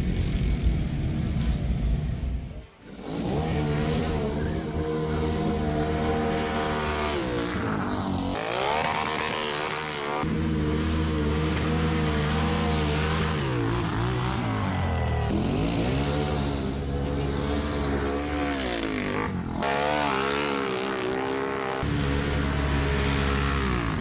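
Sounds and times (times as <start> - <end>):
off-road vehicle engines revving: 0.0 - 24.0.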